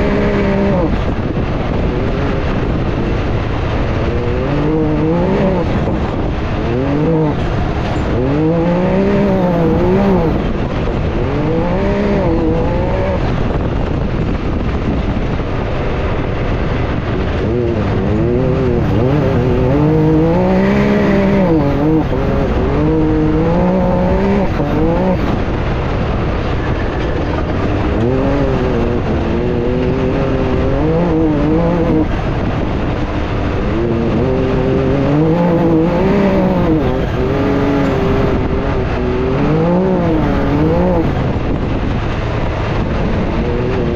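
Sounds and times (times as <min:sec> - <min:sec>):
engine revving: 0:00.0 - 0:43.9
tyres rushing on dirt: 0:00.0 - 0:43.9
wind: 0:00.0 - 0:43.9.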